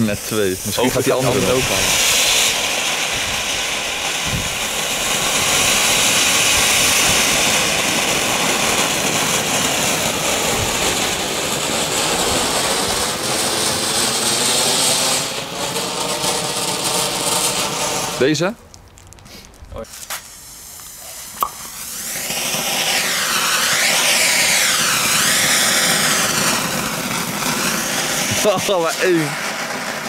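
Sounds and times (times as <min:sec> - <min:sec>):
fountain firework hissing: 0:00.0 - 0:18.6, 0:19.2 - 0:30.0.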